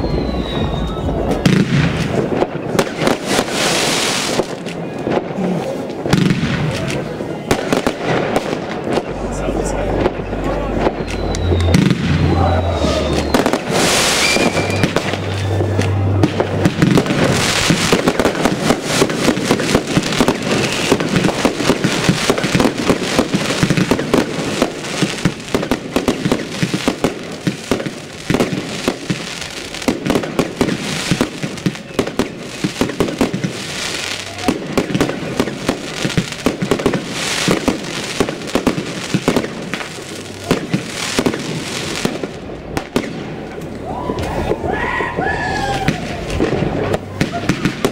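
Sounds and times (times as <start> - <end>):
fireworks bursting bangs: 0.0 - 47.9
fireworks hissing rushes: 0.0 - 47.9.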